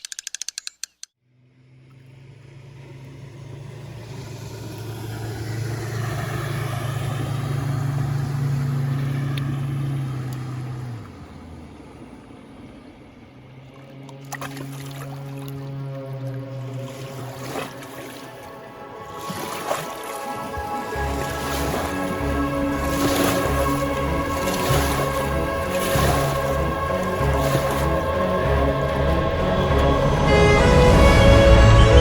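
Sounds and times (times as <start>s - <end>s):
outboard motor running: 1.3s - 32.0s.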